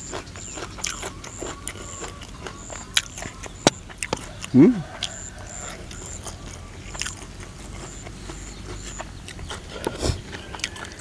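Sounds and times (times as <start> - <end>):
man chewing and lip-smacking: 0.0 - 11.0.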